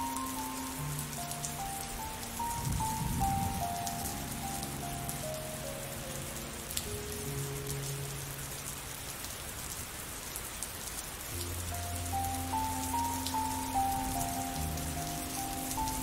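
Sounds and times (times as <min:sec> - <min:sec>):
soft slow melody: 0:00.0 - 0:09.5, 0:11.2 - 0:16.0
steady rain falling: 0:00.0 - 0:16.0.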